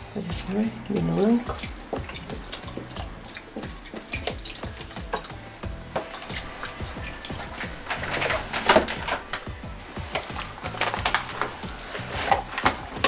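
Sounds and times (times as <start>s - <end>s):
liquid pouring into a pot: 0.4s - 13.0s.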